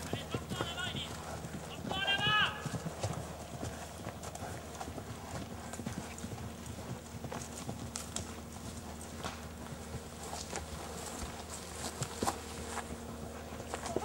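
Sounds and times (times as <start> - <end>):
horse hoofbeats on grass: 0.0 - 14.0.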